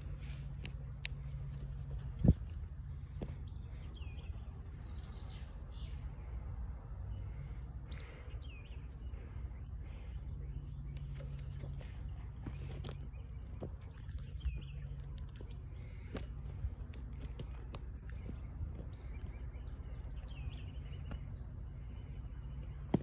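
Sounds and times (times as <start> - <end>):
bird chirping: 0.0 - 23.0
steady low rumble: 0.0 - 23.0.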